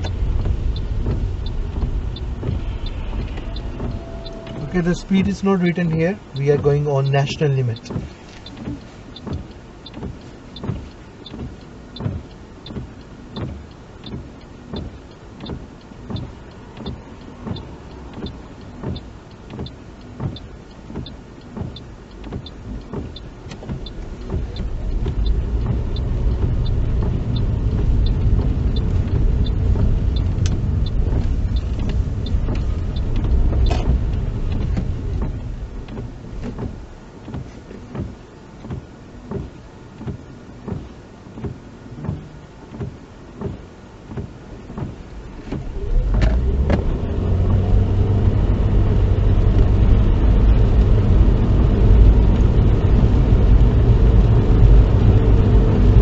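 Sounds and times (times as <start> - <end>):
road and engine noise: 0.0 - 56.0
windscreen wipers thumping: 0.0 - 56.0.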